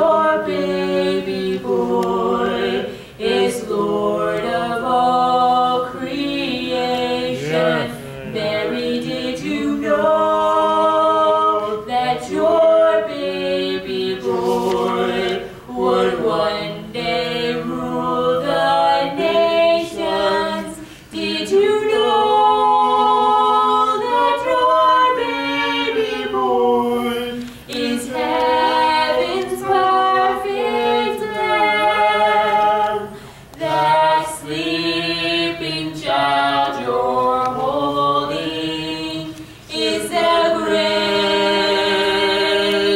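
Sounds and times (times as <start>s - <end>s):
woman and man singing in harmony: 0.0s - 42.9s.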